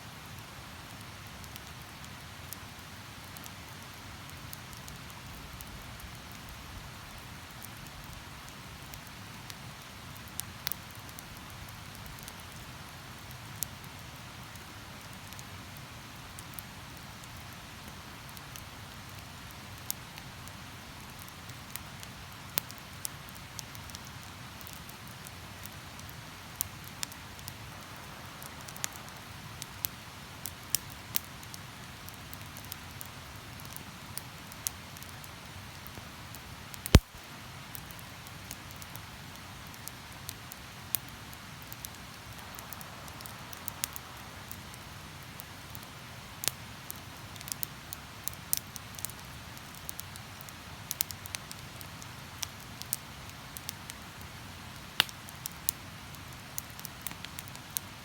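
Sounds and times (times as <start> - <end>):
campfire crackling: 0.1 - 58.0.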